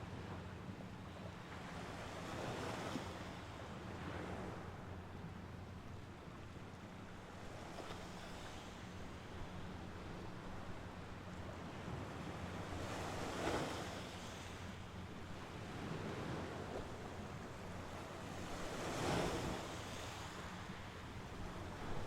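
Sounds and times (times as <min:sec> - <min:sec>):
steady wash of surf: 0:01.3 - 0:22.0
waves breaking on shore: 0:01.3 - 0:22.0.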